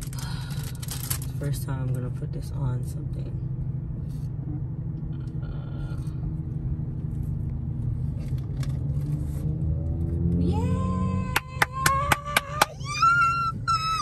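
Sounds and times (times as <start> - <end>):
low rumble inside car cabin: 0.0 - 14.0.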